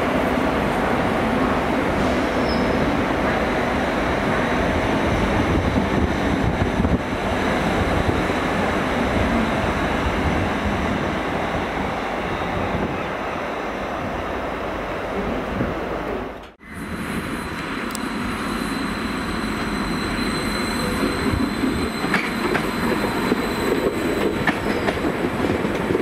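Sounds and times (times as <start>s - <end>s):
train wheels rumbling on rail: 0.0s - 13.2s, 15.1s - 26.0s.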